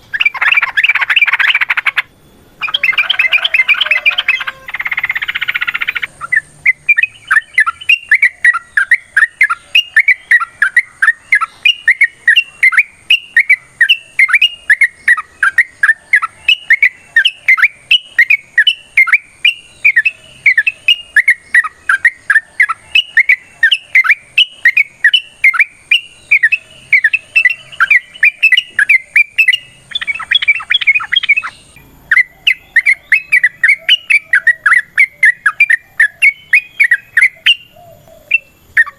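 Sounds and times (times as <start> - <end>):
bulbuls chattering song: 0.0 - 38.9.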